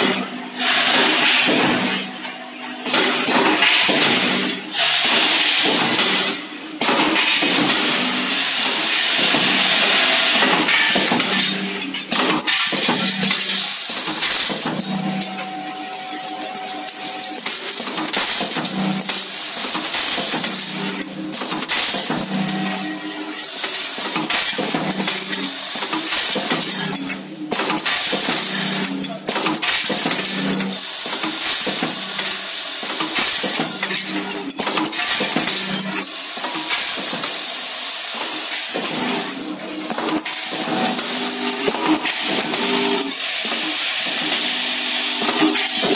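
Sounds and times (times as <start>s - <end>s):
machine hissing and clattering: 0.0s - 45.9s.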